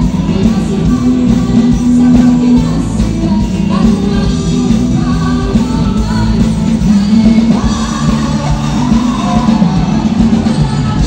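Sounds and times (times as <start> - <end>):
lead singer singing: 0.0 - 11.0
rock band playing: 0.0 - 11.0.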